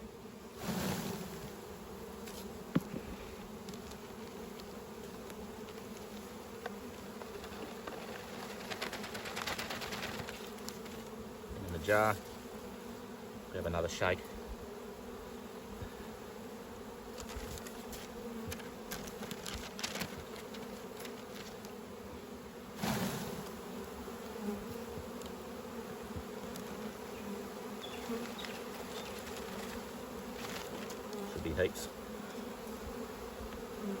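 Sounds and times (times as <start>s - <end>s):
honeybees humming: 0.0s - 34.0s.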